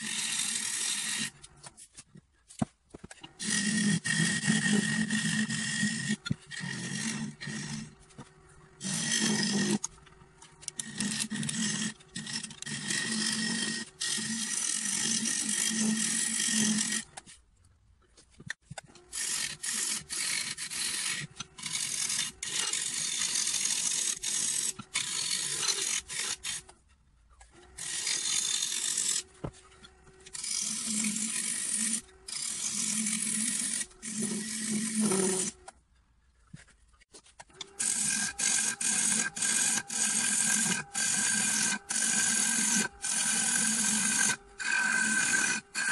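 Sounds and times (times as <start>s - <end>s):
lathe tool scraping wood: 0.0s - 1.6s, 3.3s - 17.3s, 19.0s - 26.8s, 27.6s - 35.7s, 37.5s - 45.9s.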